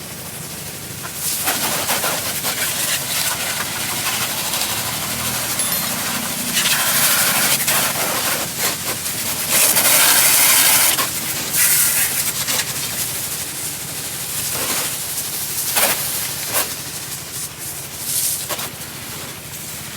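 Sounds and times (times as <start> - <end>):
pressure washer spraying: 0.3 - 19.7.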